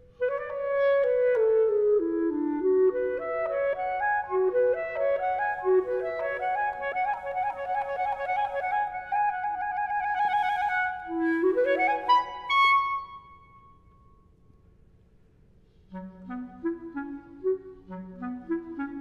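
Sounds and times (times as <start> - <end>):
clarinet playing: 0.0 - 13.9, 15.8 - 19.0.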